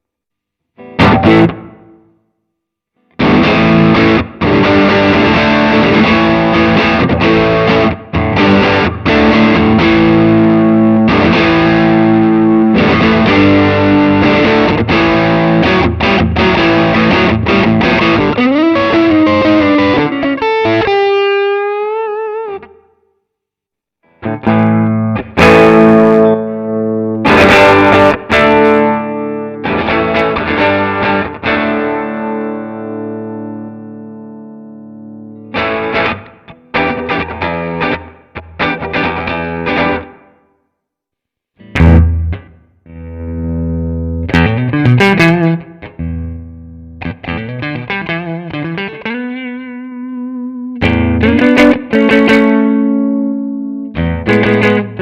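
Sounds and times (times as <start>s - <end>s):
distorted electric guitar chords: 0.8s - 2.2s, 3.1s - 22.8s, 24.1s - 40.4s, 41.6s - 55.0s.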